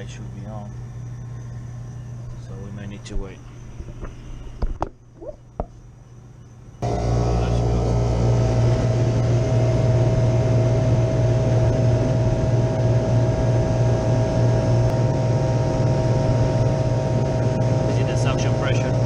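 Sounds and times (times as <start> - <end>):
refrigeration unit humming: 0.0 - 19.0.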